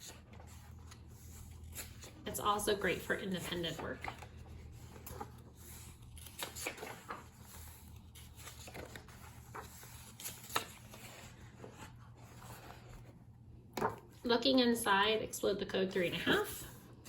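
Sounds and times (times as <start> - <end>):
rustling book pages: 0.0 - 14.2.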